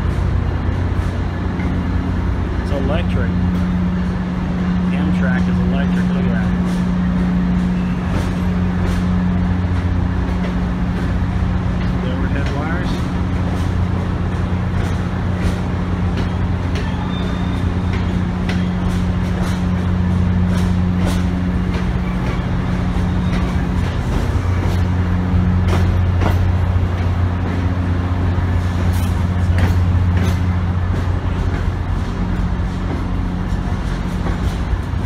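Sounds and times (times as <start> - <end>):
train cars rolling past: 0.0 - 35.0
wheels clicking over rails: 0.0 - 35.0.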